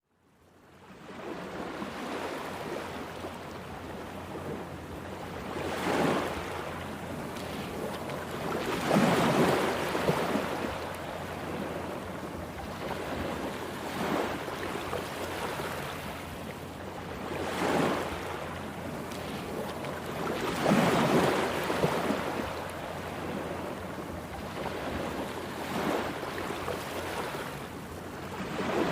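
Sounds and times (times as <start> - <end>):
ocean waves breaking on beach: 0.6 - 28.9.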